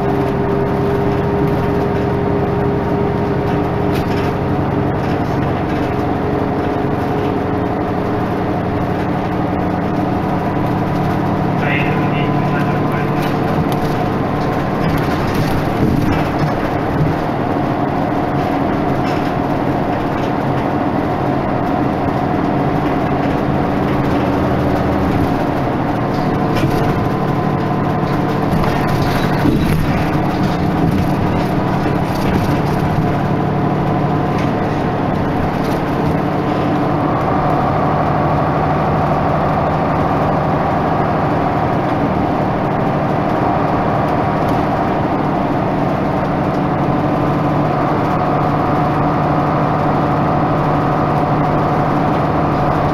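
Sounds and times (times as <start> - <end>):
bus diesel engine running: 0.0 - 52.9.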